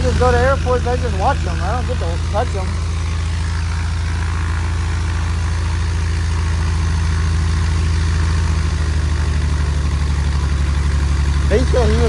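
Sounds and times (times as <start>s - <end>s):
aircraft engine idling: 0.0s - 12.0s.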